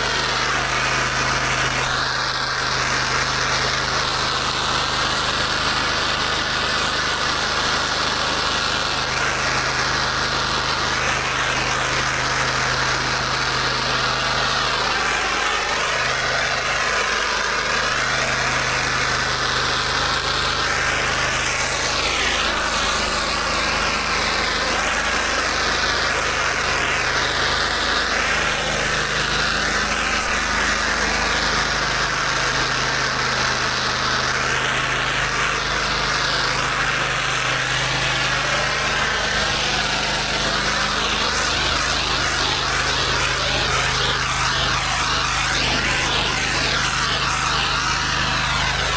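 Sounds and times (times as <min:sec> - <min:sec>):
high-pressure water spraying: 0:00.0 - 0:48.9
pressure washer engine running: 0:00.0 - 0:48.9.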